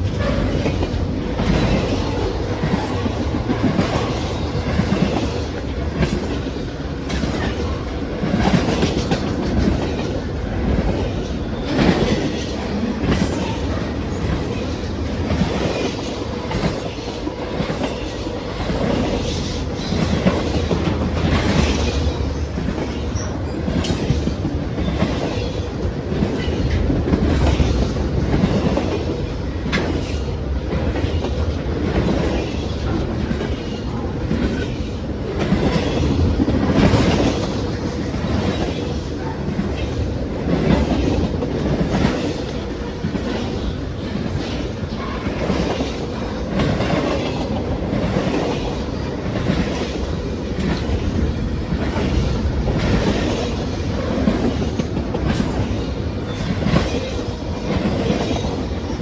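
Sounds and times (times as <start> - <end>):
train wheels clattering: 0.0 - 59.0.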